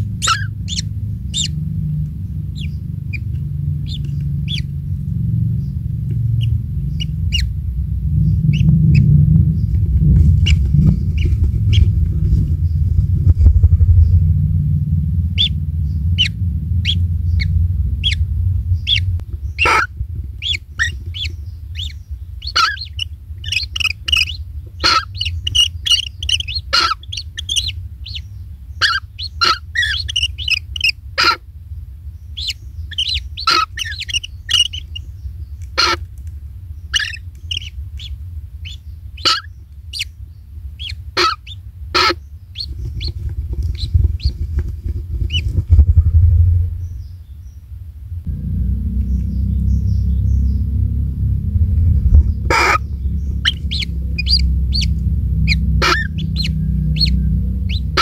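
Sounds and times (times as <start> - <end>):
birds chirping: 0.0 - 58.0
low steady rumble: 0.0 - 58.0.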